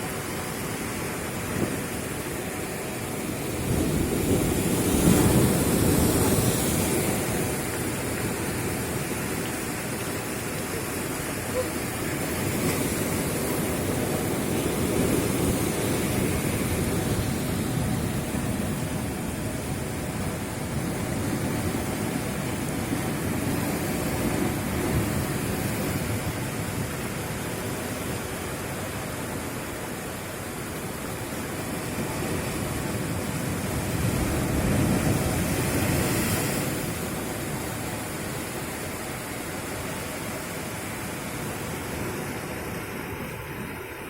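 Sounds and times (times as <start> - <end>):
surf at the shore: 0.0 - 44.0
wind roaring: 0.0 - 44.0.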